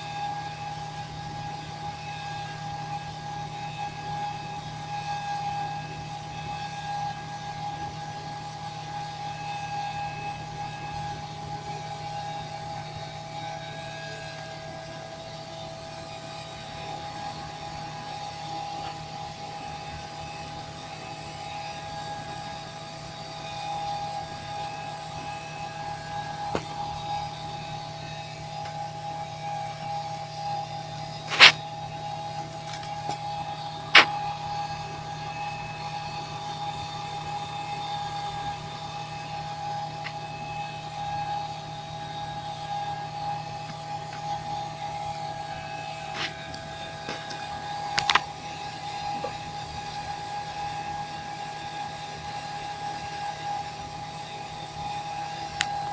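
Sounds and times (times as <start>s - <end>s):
cockpit equipment hum: 0.0s - 55.9s
whining tones: 0.0s - 55.9s.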